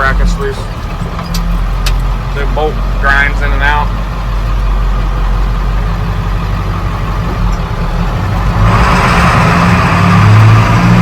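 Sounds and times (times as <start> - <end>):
exhaust bracket rattling and grinding: 0.0 - 9.0
truck engine running: 0.0 - 11.0.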